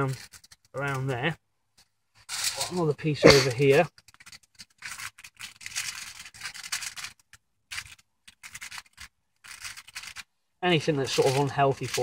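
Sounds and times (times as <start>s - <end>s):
aluminium foil crinkling: 0.0s - 1.2s, 2.2s - 2.8s, 3.4s - 10.3s, 11.0s - 12.0s.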